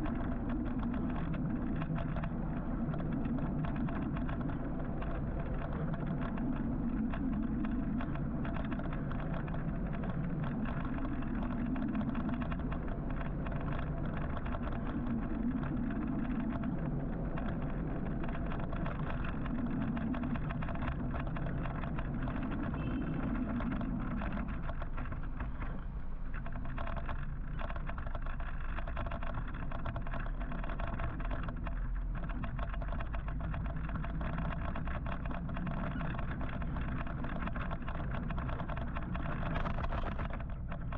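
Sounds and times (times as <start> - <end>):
surrounding car engines: 0.0 - 40.9
tyre and road noise: 0.0 - 40.9.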